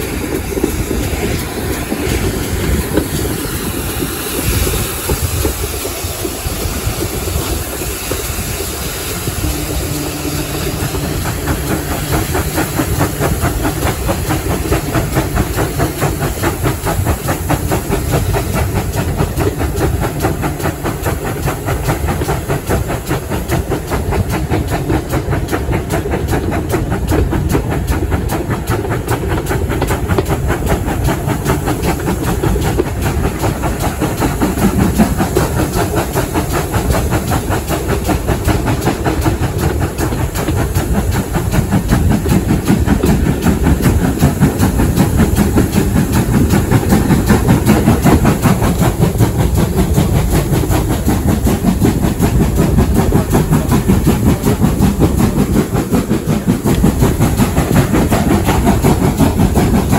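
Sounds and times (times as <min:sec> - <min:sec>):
rush of air: 0:00.0 - 0:59.9
train wheels running on rails: 0:00.0 - 0:59.9.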